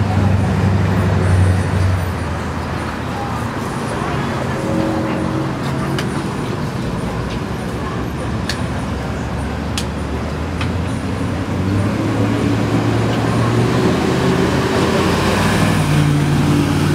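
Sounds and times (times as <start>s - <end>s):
vehicle engine humming: 0.0s - 16.9s.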